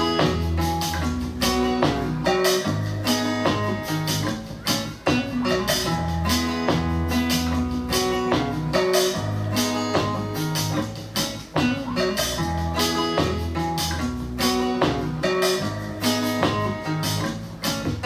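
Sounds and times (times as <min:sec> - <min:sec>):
guitar-led music with drums: 0:00.0 - 0:18.0.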